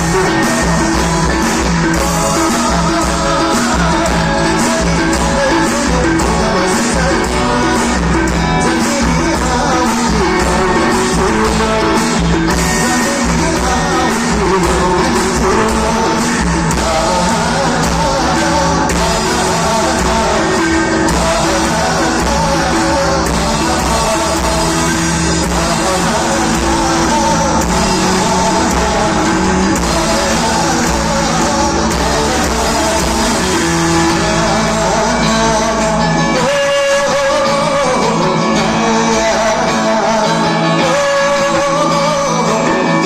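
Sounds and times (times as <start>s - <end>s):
electric guitars: 0.0s - 43.0s
person singing: 0.0s - 43.0s
rock band playing: 0.0s - 43.0s.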